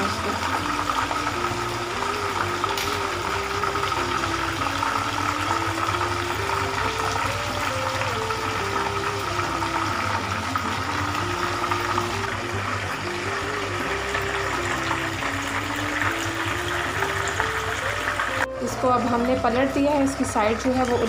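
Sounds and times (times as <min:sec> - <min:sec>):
oil sizzling and bubbling: 0:00.0 - 0:21.0
soft stepping melody: 0:00.0 - 0:21.0.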